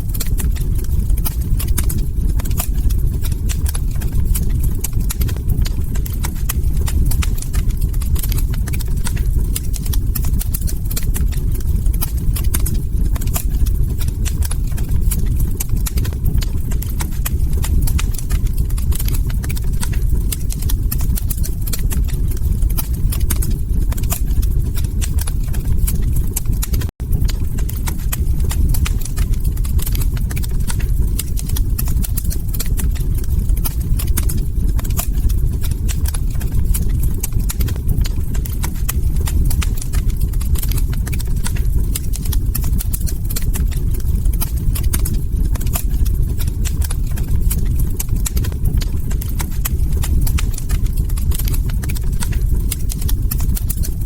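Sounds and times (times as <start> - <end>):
log fire crackling and popping: 0.0 - 54.0
low rumble of burning: 0.0 - 54.0.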